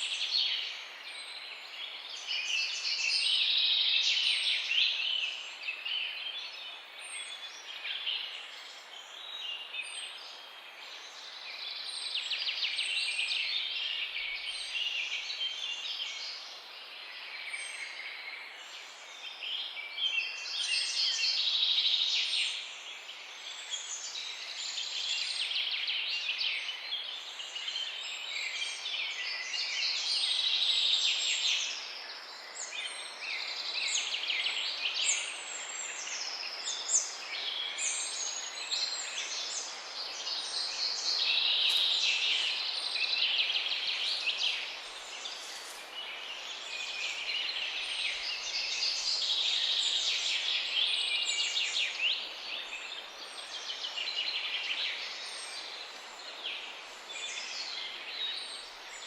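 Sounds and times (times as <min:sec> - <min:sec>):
background hiss: 0:00.0 - 0:59.0
songbirds chorus: 0:00.0 - 0:59.0.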